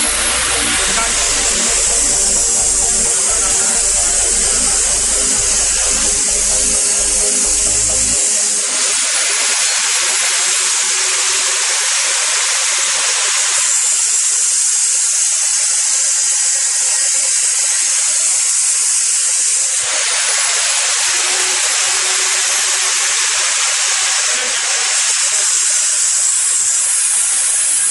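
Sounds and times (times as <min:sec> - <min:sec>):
loud steady hiss: 0:00.0 - 0:27.9.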